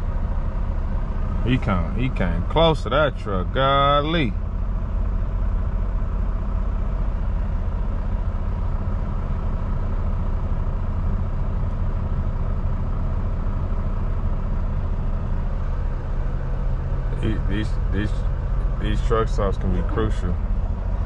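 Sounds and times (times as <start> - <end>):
truck diesel engine rumbling: 0.0 - 21.0.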